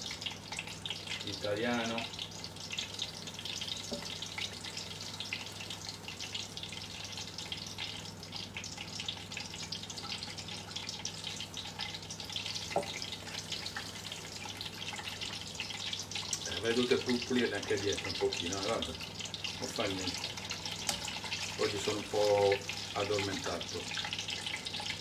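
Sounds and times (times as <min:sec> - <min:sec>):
aubergine sizzling in hot oil: 0:00.0 - 0:25.0.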